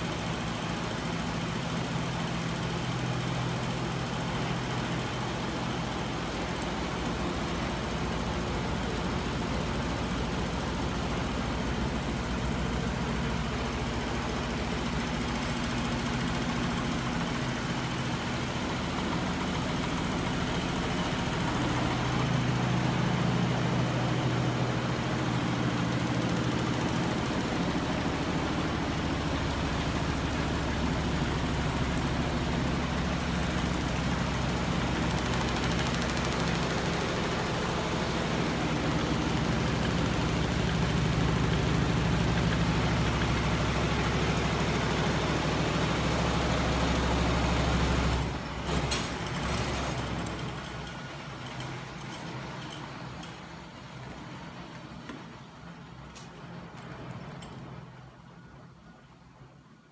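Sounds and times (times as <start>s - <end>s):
flywheel machine humming: 0.0s - 59.6s.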